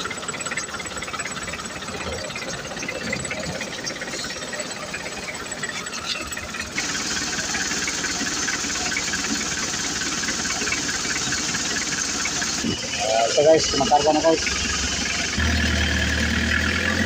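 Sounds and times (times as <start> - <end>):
diesel engine clattering: 0.0 - 17.0.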